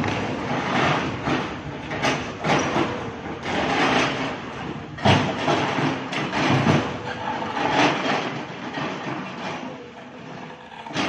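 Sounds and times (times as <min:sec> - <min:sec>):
heavy machinery rumbling: 0:00.0 - 0:11.0
machinery clanks and knocks: 0:00.0 - 0:11.0.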